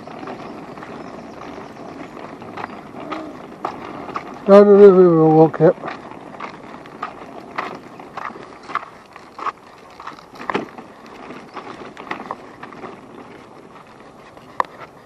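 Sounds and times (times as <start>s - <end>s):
wheels rolling over rough path: 0.0s - 15.0s.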